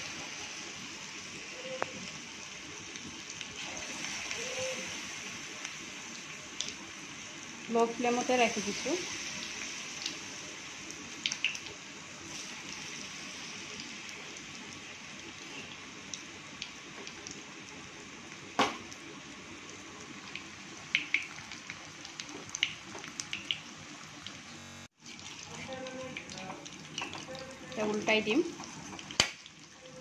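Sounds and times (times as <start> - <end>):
deep-frying sizzle with pops: 0.0 - 30.0.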